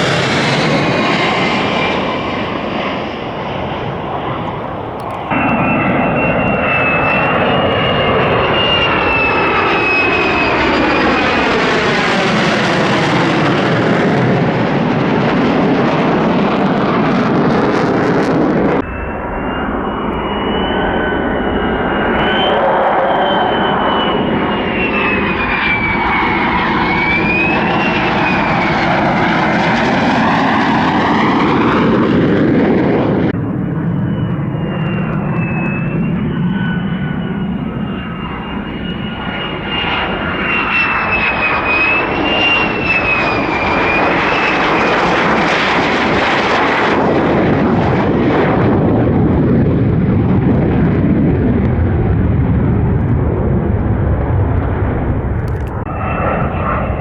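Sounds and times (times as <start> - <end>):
jet engine roaring with whine: 0.0 - 57.0.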